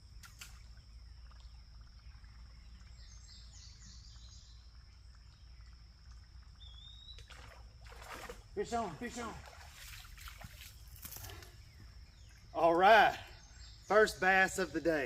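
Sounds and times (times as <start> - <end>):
bird chirps: 0.2 - 5.8, 6.5 - 7.4, 8.6 - 15.0.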